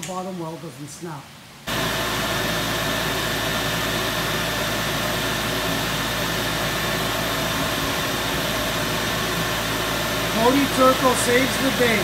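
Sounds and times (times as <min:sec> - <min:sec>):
faint steady whine: 0:00.0 - 0:12.0
exhaust blower rushing air: 0:01.7 - 0:12.0.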